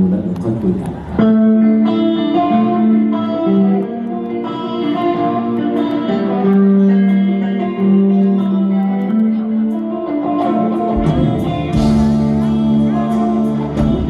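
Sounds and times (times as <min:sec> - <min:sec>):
electric guitar slow intro: 0:00.0 - 0:14.0.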